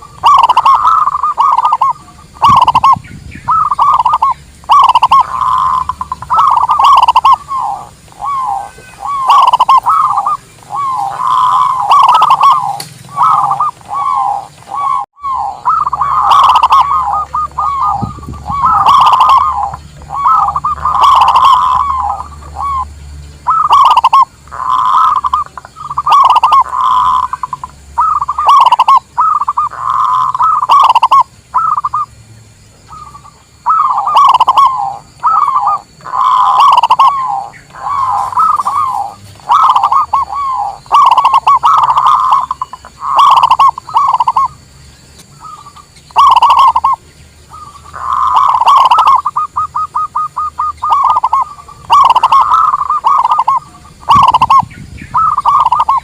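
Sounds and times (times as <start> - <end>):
dove cooing: 0.0 - 32.1, 32.9 - 44.6, 45.2 - 56.0.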